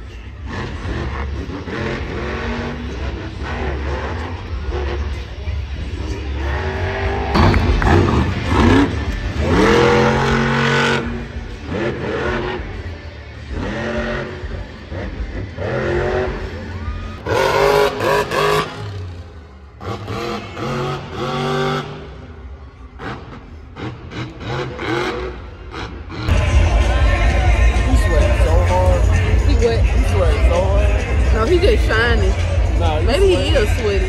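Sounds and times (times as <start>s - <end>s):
monster truck engines revving: 0.0s - 34.0s.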